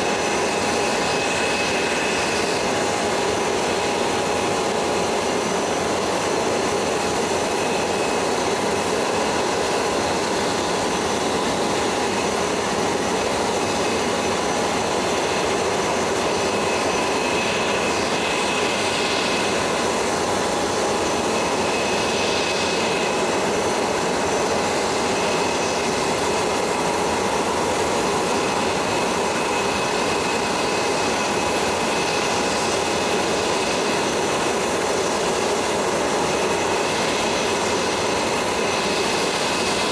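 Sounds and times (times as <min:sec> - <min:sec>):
jet turbine engine whine: 0:00.0 - 0:39.9.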